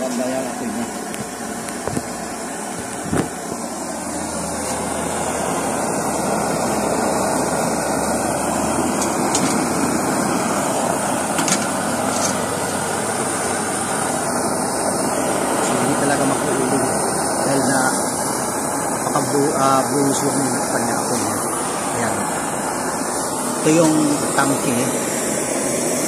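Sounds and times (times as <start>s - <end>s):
stove burner flame rushing: 0.0s - 26.0s.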